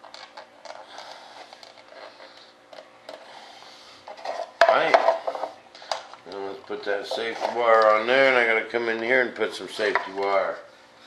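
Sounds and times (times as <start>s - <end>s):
plastic tubing rustling: 0.0s - 10.1s
faint steady hum: 0.0s - 11.0s.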